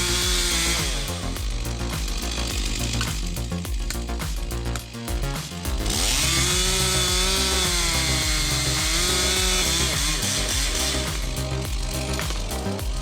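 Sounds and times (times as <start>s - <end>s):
chainsaw cutting wood: 0.0s - 3.4s, 5.9s - 13.0s
background music with steady beat: 0.0s - 13.0s.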